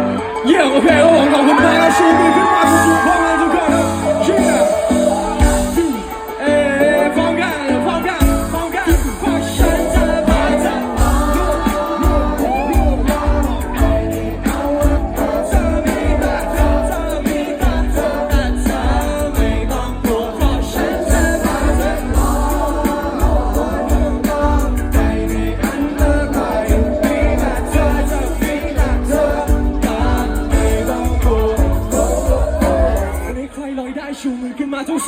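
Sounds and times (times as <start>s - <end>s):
crowd voices: 0.0s - 35.0s
singer with amplified pop band: 0.0s - 35.0s.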